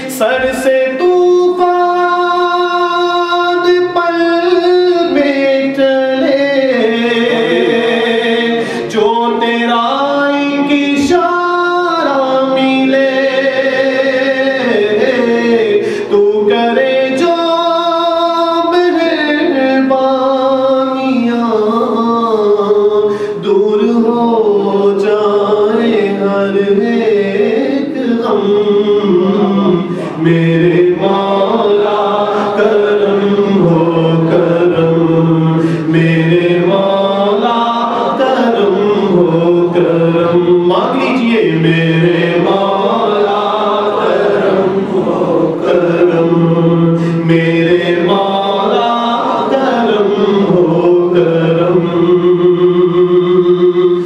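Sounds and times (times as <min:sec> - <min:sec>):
man singing into a microphone: 0:00.0 - 0:54.0.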